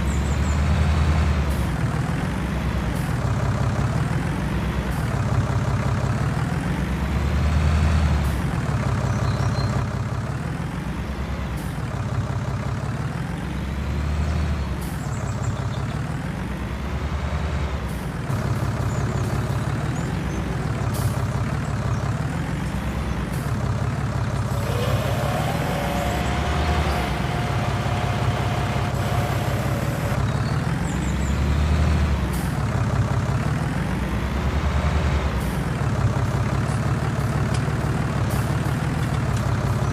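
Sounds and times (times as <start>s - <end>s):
tractor engine surging: 0.0s - 39.9s.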